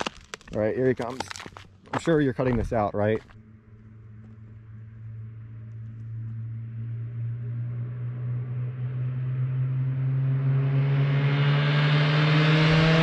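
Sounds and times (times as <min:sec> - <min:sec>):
car engine drone approaching: 0:00.0 - 0:13.0.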